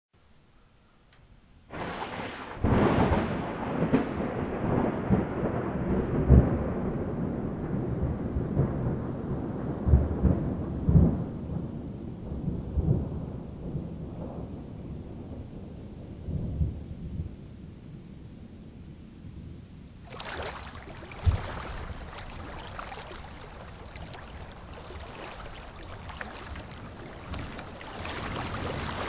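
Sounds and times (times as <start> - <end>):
thunder crack and rumble: 1.7 - 17.4, 21.0 - 29.0.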